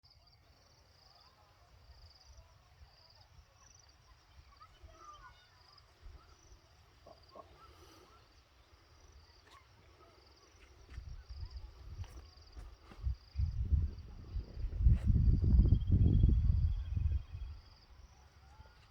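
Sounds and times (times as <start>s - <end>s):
insect chirping trills: 0.2s - 18.5s.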